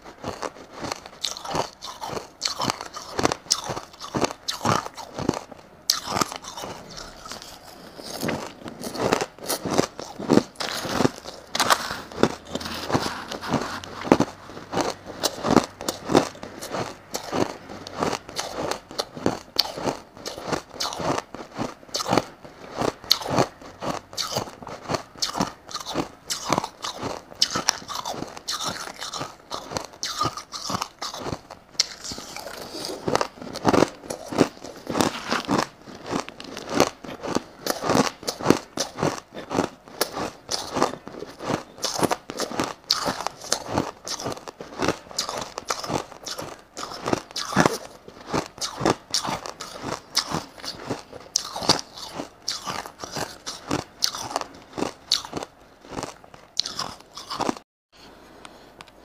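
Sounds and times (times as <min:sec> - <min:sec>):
crushed ice being chewed: 0:00.0 - 0:57.6.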